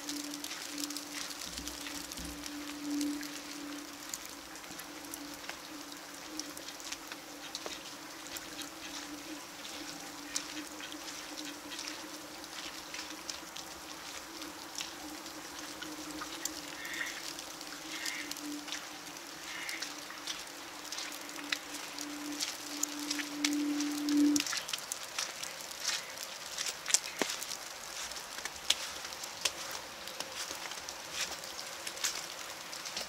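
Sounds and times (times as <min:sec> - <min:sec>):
wet snow patter and drips: 0:00.0 - 0:33.0.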